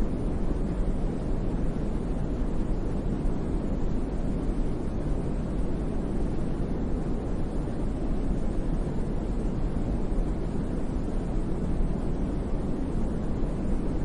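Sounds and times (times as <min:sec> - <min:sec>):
brown noise rumbling hiss: 0:00.0 - 0:14.0.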